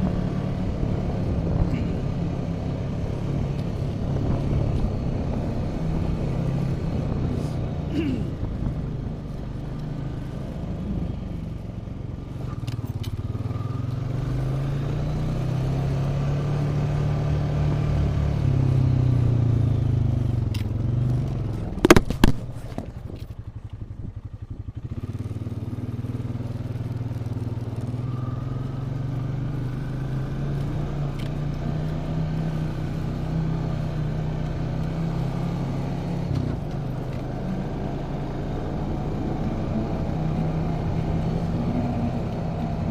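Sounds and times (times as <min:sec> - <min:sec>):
road noise: 0:00.0 - 0:42.9
vehicle engine drone: 0:00.0 - 0:42.9.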